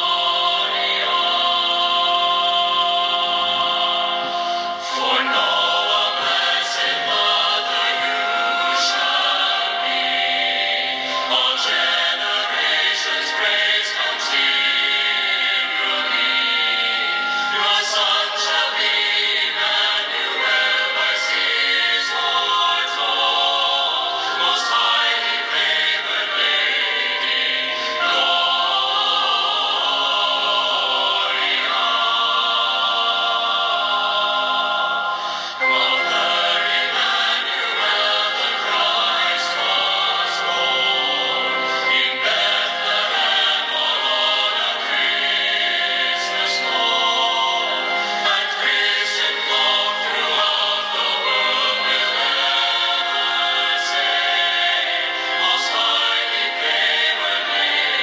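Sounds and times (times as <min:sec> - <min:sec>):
choir singing sacred music: 0:00.0 - 0:58.0.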